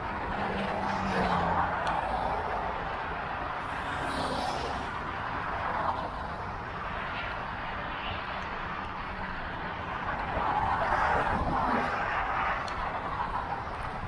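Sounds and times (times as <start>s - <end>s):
motor vehicles passing: 0.0s - 6.9s, 8.2s - 14.0s.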